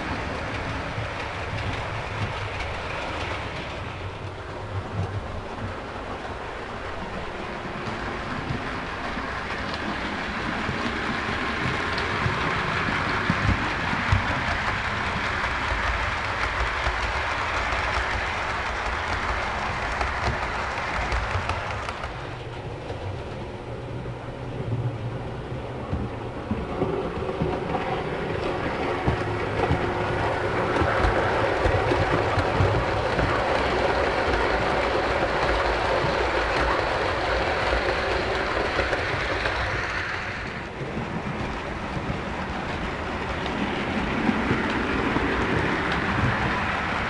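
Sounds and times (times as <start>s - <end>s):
wheels clicking over rail joints: 0.0s - 47.0s.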